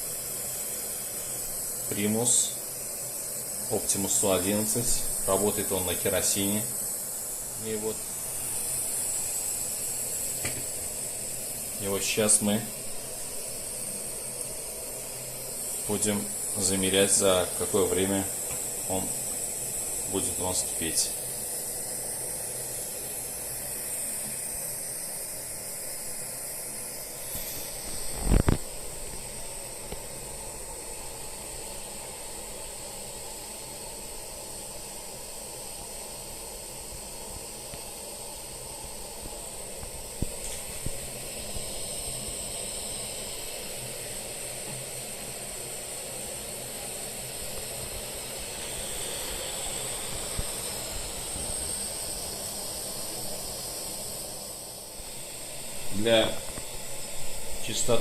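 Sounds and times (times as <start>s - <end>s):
pressure stove burner hissing: 0.0s - 58.0s.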